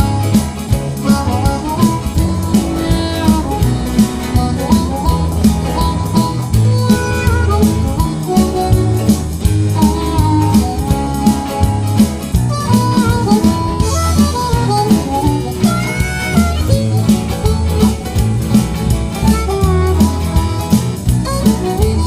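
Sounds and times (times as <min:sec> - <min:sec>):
background music with steady beat: 0:00.0 - 0:22.0.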